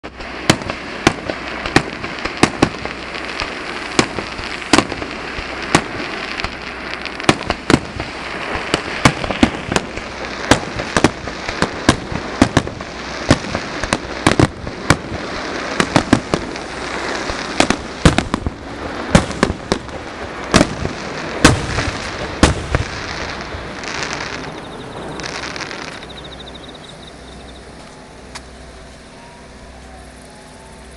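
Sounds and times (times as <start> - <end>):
fireworks shells bursting: 0.0 - 29.5
fireworks crackling: 0.0 - 30.9.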